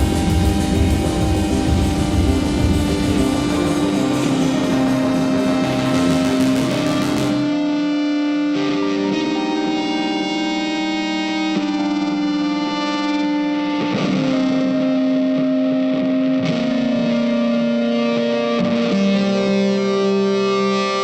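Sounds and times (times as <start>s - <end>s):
distorted electric guitar: 0.0s - 21.0s.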